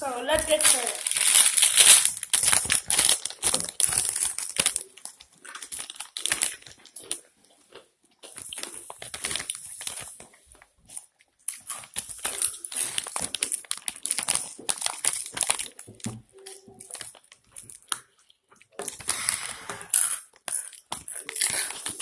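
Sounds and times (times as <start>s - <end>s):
plastic snack bag crinkling: 0.0s - 22.0s
chips being chewed: 0.5s - 22.0s.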